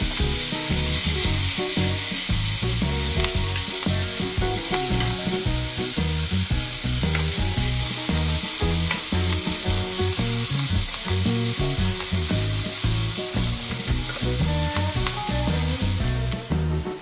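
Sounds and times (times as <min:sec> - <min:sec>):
background music: 0:00.0 - 0:17.0
food sizzling in a wok: 0:00.0 - 0:17.0.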